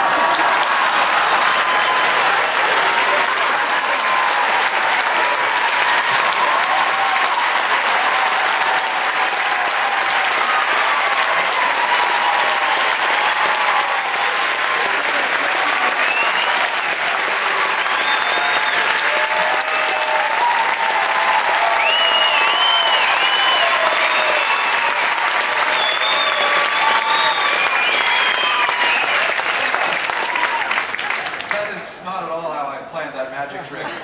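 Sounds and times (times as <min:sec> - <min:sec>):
audience applauding: 0:00.0 - 0:32.0.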